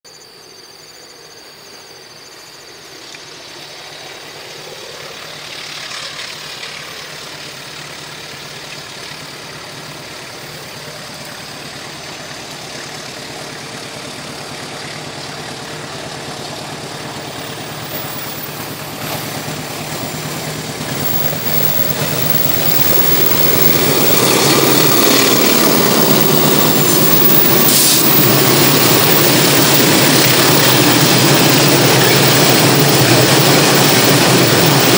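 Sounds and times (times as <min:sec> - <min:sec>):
diesel locomotive engine droning: 0:00.1 - 0:34.9.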